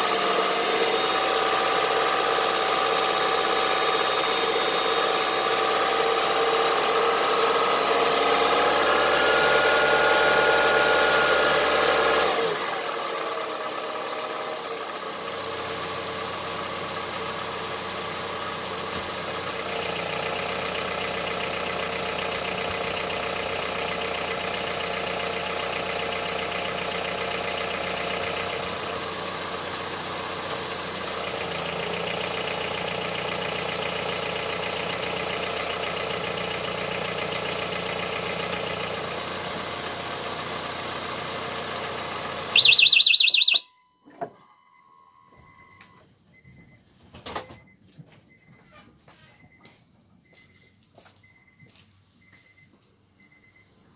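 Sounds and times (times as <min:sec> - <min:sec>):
car engine revving and idling: 0:00.0 - 0:43.5.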